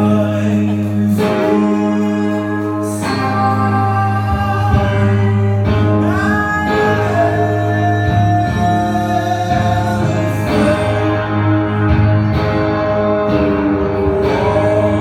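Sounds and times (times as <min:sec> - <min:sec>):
electric guitar chords: 0:00.0 - 0:15.0
low drone: 0:00.0 - 0:15.0.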